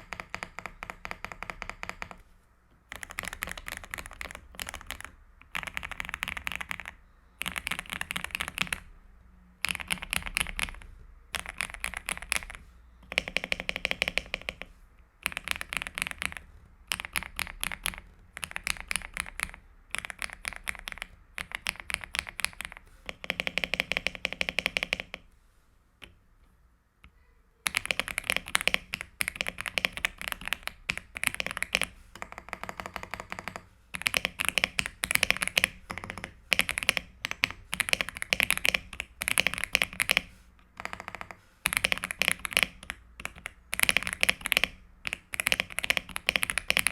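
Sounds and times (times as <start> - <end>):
mechanical keyboard typing: 0.0 - 2.2, 2.9 - 9.0, 9.6 - 25.3, 27.6 - 46.9.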